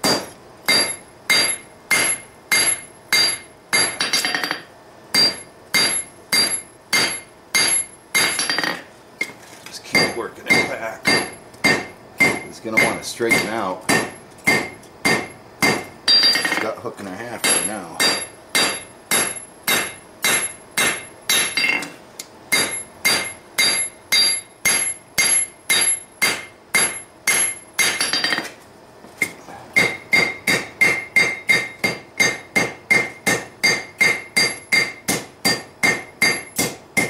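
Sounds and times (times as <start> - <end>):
hammer striking metal on anvil: 0.0 - 16.7, 17.4 - 28.5, 29.2 - 37.0.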